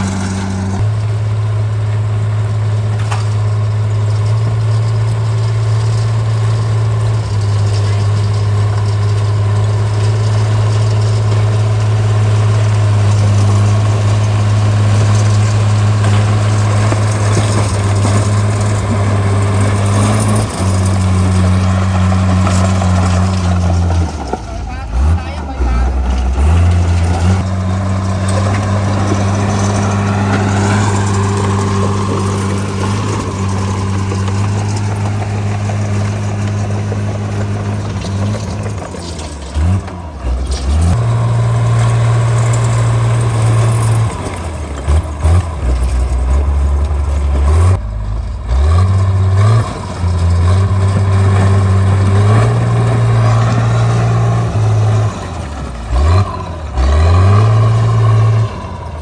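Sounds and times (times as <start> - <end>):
bulldozer diesel engine working: 0.0 - 59.0
clatter and rumble: 0.0 - 59.0.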